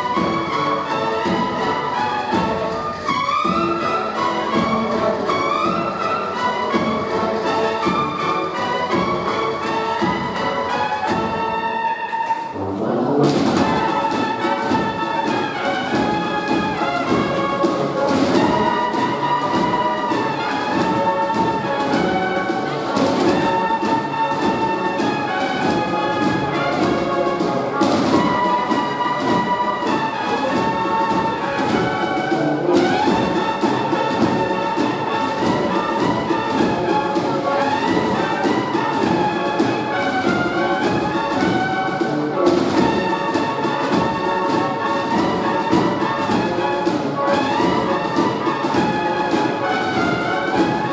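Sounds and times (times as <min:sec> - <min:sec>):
bugle and drum band playing: 0:00.0 - 0:50.9.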